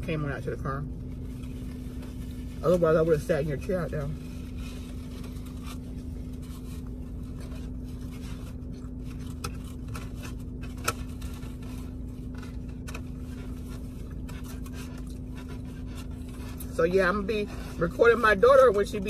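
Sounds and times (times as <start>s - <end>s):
car interior hum: 0.0s - 19.0s
light scraping and handling: 1.0s - 19.0s.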